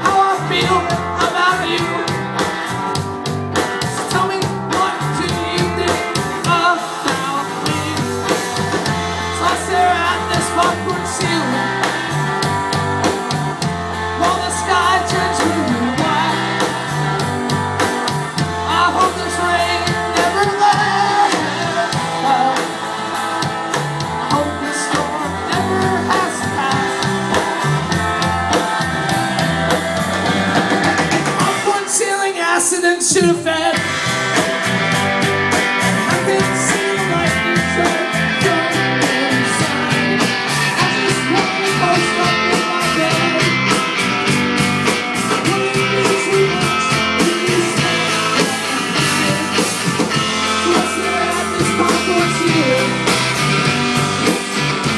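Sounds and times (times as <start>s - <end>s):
person singing: 0.0s - 3.0s, 3.8s - 54.9s
bass guitar: 0.0s - 54.9s
drum kit: 0.0s - 54.9s
electric guitar: 0.0s - 54.9s.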